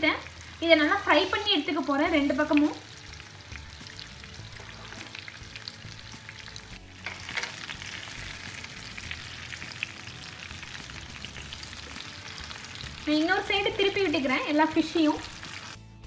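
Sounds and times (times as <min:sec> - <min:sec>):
fish frying in oil: 0:00.0 - 0:15.8.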